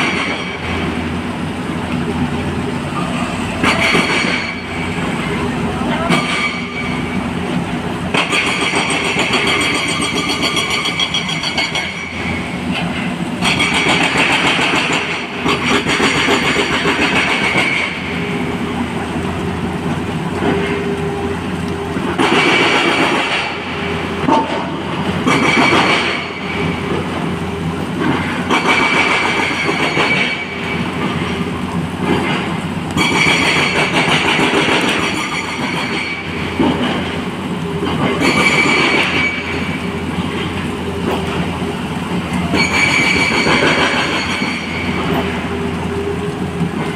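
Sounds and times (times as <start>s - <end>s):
excavator engine running: 0.0s - 46.9s.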